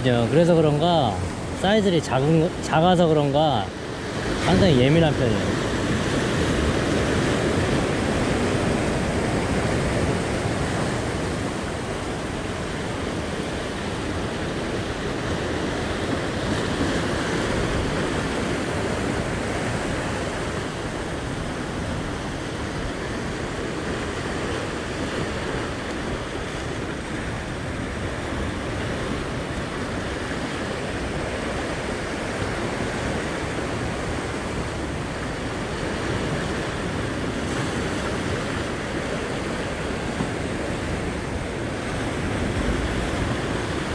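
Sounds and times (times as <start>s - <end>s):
surf washing against rocks: 0.0s - 43.9s.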